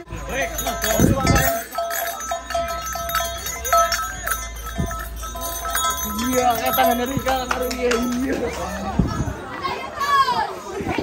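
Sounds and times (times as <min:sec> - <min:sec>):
gong-chimes and metallophones: 0:00.0 - 0:09.6.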